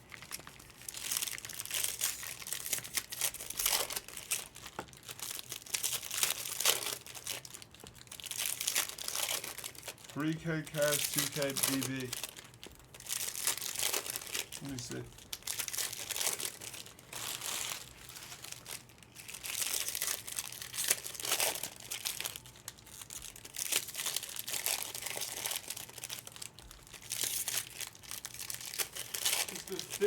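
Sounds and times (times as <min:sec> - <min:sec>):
plastic wrapping crinkling: 0:00.0 - 0:30.0.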